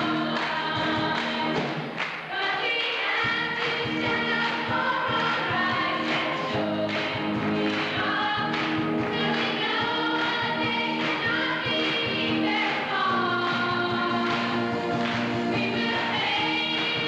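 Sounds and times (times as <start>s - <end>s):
chorus singing with accompaniment: 0.0s - 17.0s.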